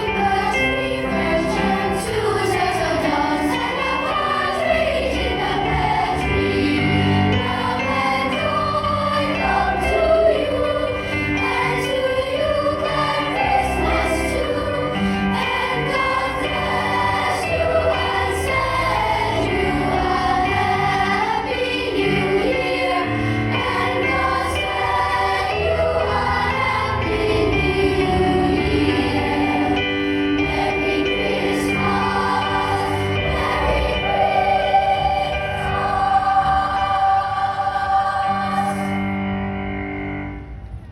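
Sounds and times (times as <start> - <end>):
choir singing: 0.0 - 39.6.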